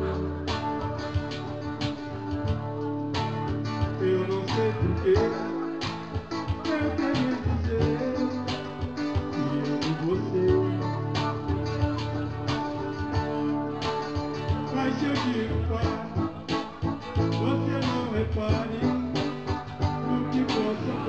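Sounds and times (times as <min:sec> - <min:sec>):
live band guitar instrumental: 0:00.0 - 0:21.0.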